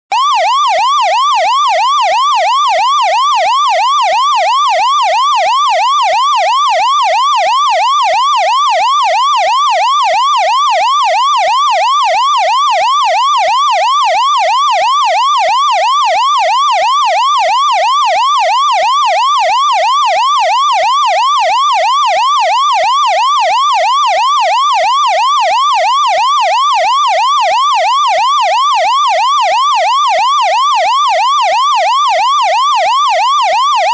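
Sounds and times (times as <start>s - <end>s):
fire engine siren yelping: 0.1s - 33.9s.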